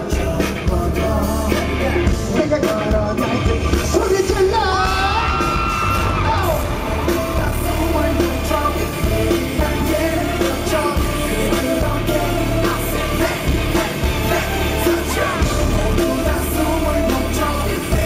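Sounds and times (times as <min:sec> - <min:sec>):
heavy bass beat: 0:00.0 - 0:18.0
man singing: 0:00.0 - 0:18.0.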